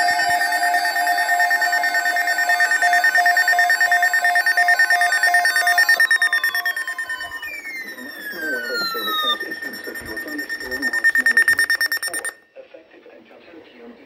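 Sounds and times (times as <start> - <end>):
electronic alert tones warbling: 0.0 - 12.4.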